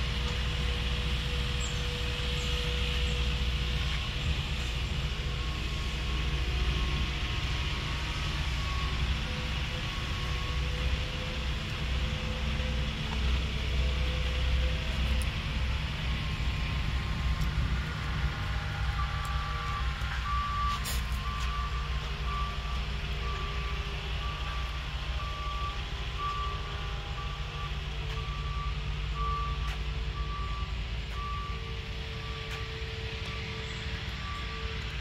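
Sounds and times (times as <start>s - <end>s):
low steady rumble: 0.0s - 35.0s
reversing alarm beeping: 0.0s - 35.0s.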